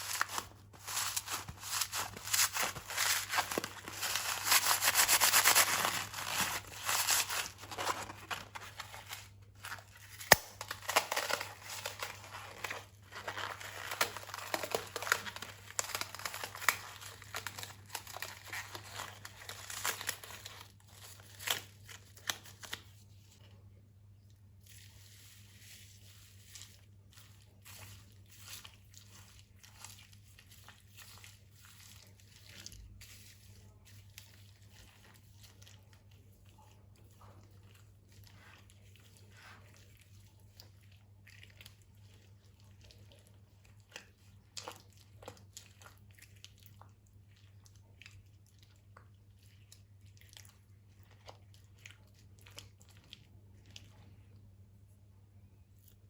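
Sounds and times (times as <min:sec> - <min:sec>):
slime crackling and squishing: 0:00.0 - 0:23.4, 0:24.4 - 0:54.9.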